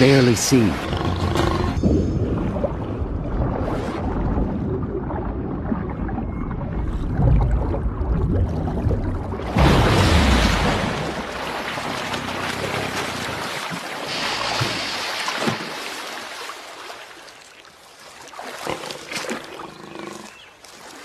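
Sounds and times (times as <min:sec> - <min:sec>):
water splashing and churning: 0:00.0 - 0:21.0.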